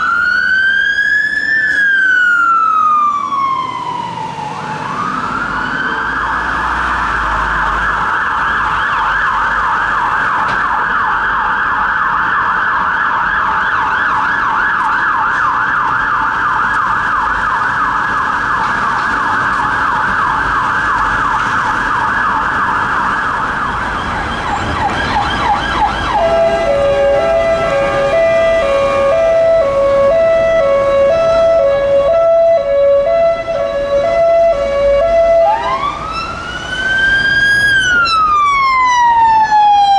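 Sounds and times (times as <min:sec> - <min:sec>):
siren on fast yelp: 0:00.0 - 0:39.9
two-tone siren: 0:00.0 - 0:39.9.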